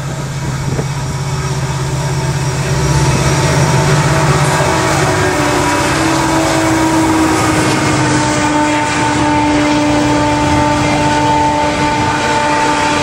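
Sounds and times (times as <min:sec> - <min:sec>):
freight train wheels rumbling: 0:00.0 - 0:13.0
steady whine: 0:00.0 - 0:13.0.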